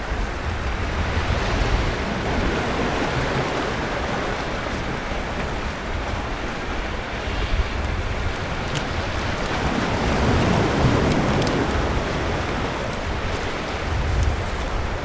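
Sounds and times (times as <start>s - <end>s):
sea surf washing on beach: 0.0s - 15.0s
wave breaking: 0.0s - 15.0s.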